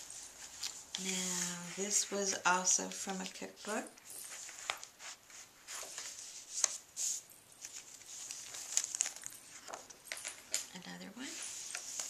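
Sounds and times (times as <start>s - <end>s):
paper pages rustling: 0.0s - 10.7s, 11.3s - 12.0s.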